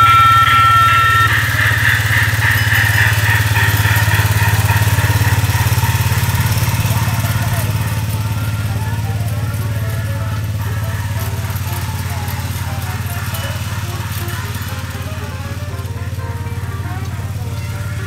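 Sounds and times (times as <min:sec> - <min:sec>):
small engine chugging: 0:00.0 - 0:18.0
steady high tone: 0:00.0 - 0:18.0.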